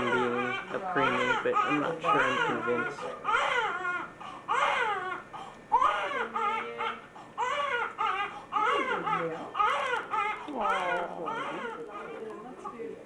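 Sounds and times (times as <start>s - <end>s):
newborn baby crying: 0.0s - 12.8s.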